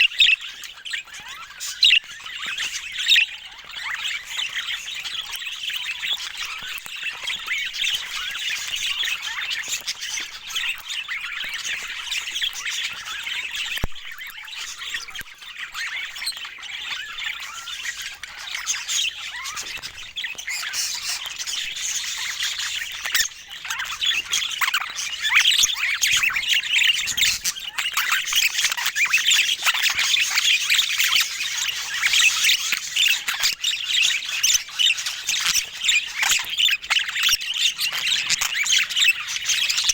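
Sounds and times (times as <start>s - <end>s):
budgerigar chatter: 0.0s - 39.9s.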